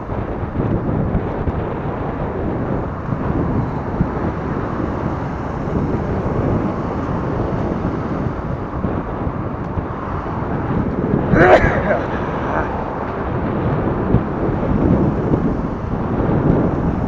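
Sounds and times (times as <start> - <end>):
road noise rumble: 0.0 - 17.0
wind buffeting microphone: 0.0 - 17.0.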